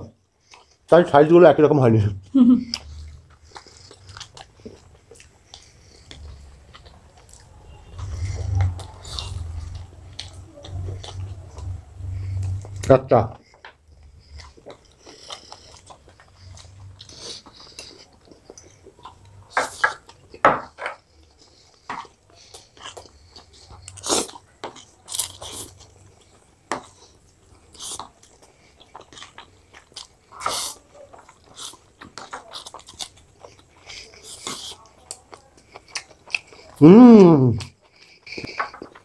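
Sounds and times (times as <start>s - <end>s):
chewing with wet smacks: 0.3s - 1.0s, 2.6s - 36.8s, 37.6s - 39.0s.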